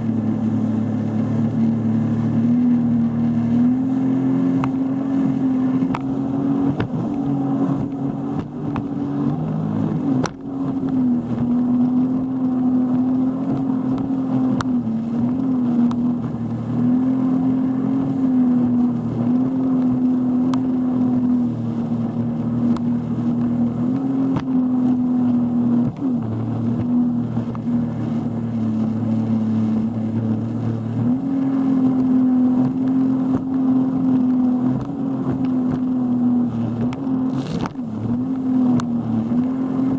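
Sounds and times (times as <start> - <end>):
motorboat engine running: 0.0 - 39.9.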